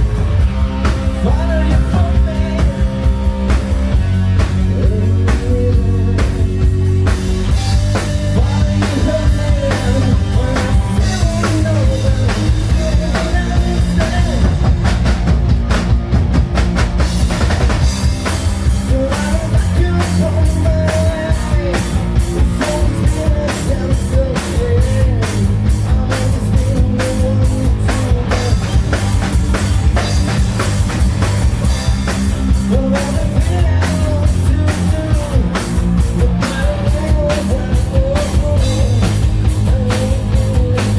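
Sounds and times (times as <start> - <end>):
sung vocals: 0.0 - 15.1, 17.8 - 30.4, 31.6 - 40.9
hard rock band playing: 0.0 - 40.9
pounding drum kit: 0.0 - 40.9.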